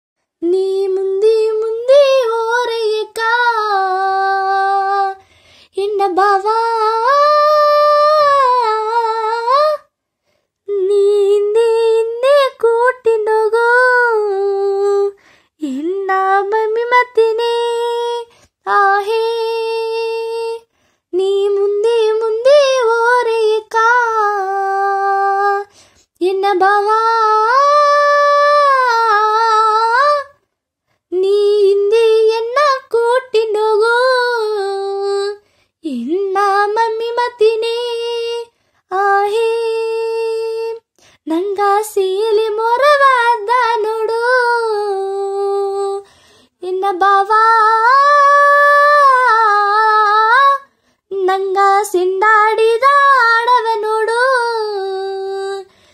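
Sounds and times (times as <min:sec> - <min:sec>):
girl singing unaccompanied: 0:00.4 - 0:09.9, 0:10.7 - 0:30.4, 0:31.0 - 0:55.9.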